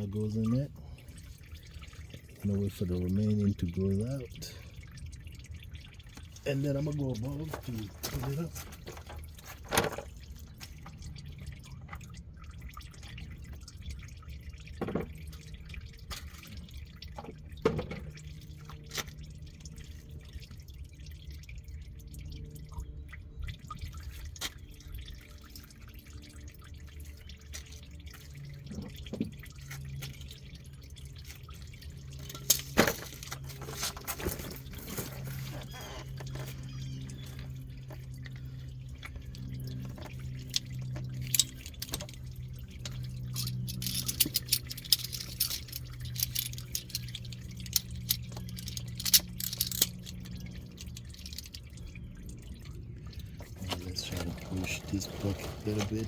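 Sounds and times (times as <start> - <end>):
low steady hum: 0.0 - 56.0
oil dripping into bucket: 0.0 - 56.0.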